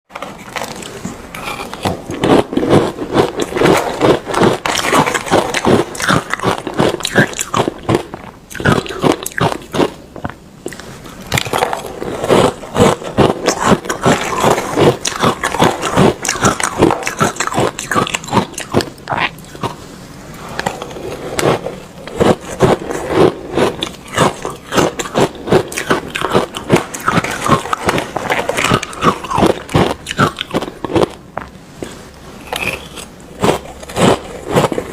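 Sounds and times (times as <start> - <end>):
chewing crunchy ice: 0.4 - 19.8, 20.5 - 34.9.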